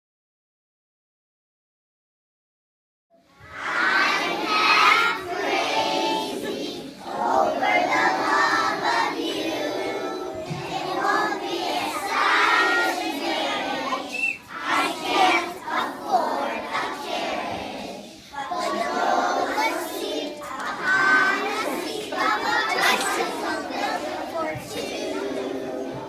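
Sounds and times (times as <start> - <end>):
young children singing together: 3.2 - 26.0.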